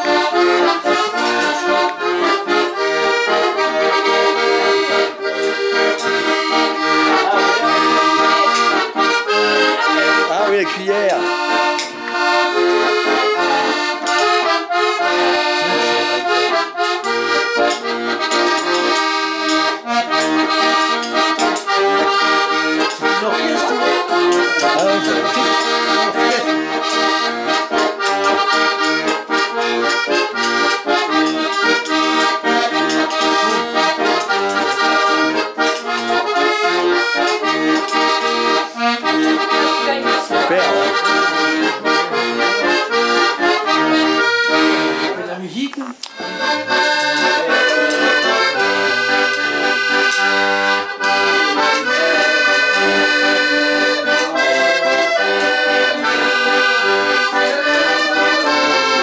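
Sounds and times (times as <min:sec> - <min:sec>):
lively accordion tune: 0:00.0 - 0:59.0.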